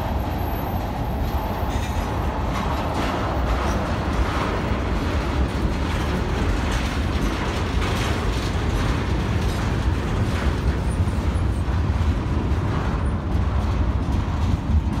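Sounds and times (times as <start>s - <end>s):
freight cars rumbling on rail: 0.0s - 15.0s.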